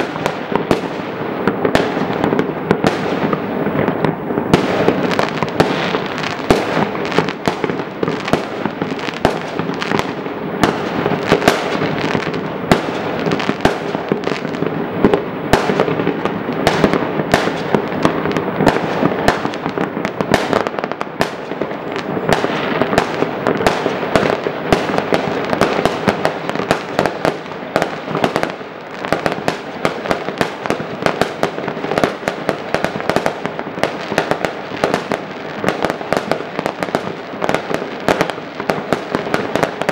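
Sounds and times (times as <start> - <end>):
fireworks and firecrackers popping: 0.0 - 39.9.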